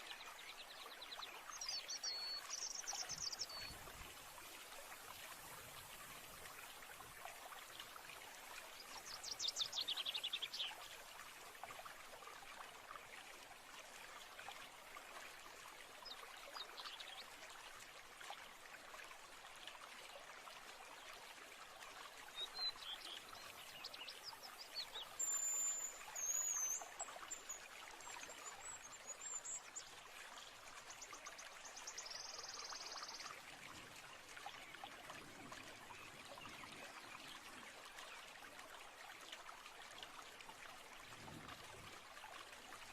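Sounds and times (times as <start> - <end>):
trickling stream: 0.0 - 42.9.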